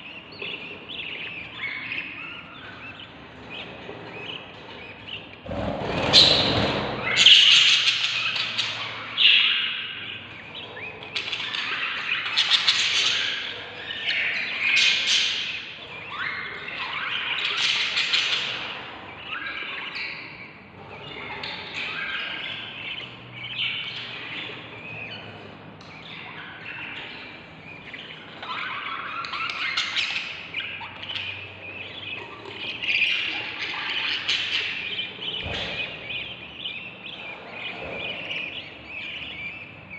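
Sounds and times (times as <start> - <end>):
chicks raspy chirping: 0.0 - 39.9.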